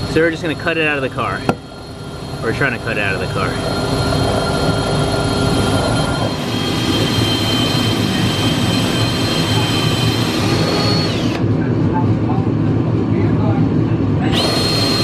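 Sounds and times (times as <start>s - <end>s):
power tool cutting sheet metal: 0.0s - 11.4s, 14.3s - 15.0s.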